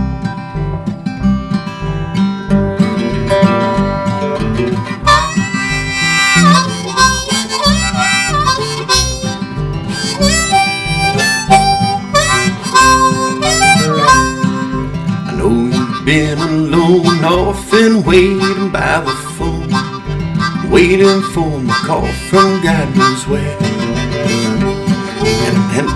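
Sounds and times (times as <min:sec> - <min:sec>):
strummed acoustic guitar: 0:00.0 - 0:25.9
harmonica melody: 0:01.2 - 0:25.9
steady beat: 0:01.4 - 0:25.9.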